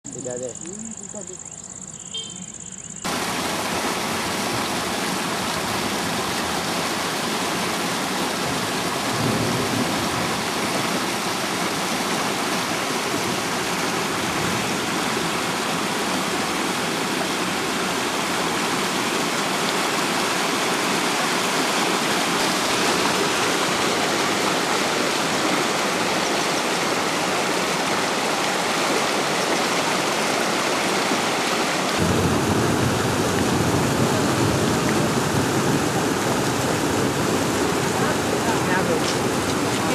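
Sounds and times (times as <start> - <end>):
water rushing over rocks: 3.1 - 39.9.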